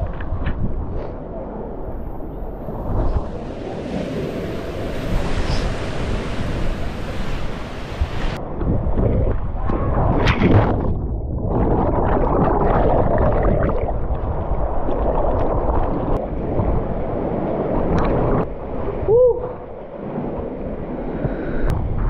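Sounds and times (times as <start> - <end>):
wind buffeting microphone: 0.0 - 22.0
rushing water: 2.5 - 21.4.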